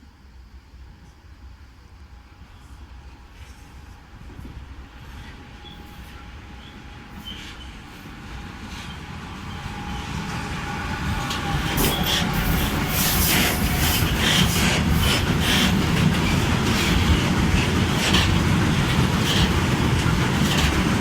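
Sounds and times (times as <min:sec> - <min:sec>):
train rumbling: 0:00.0 - 0:21.0
train wheels clicking over joints: 0:03.3 - 0:21.0.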